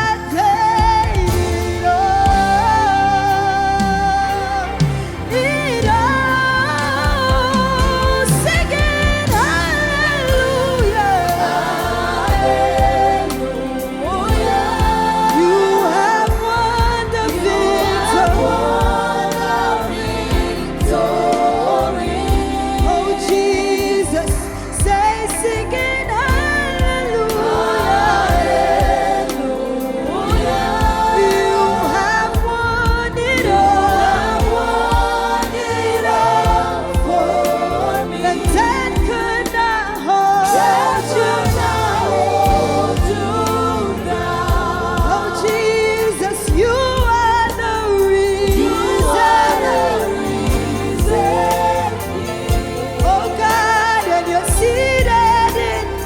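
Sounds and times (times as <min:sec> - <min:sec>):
band with steady beat: 0:00.0 - 0:56.0
choir singing gospel: 0:00.0 - 0:56.0.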